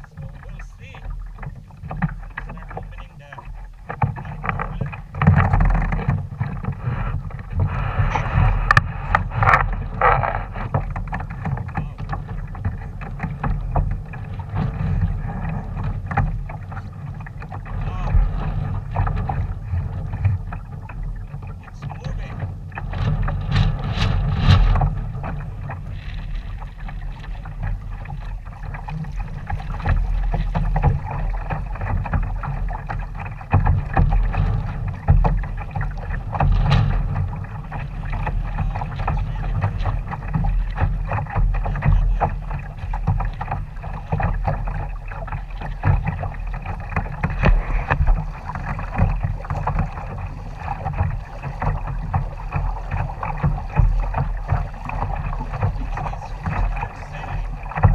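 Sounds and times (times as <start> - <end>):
water slapping against hull: 0.0 - 57.9
wind rumbling on microphone: 0.0 - 57.9.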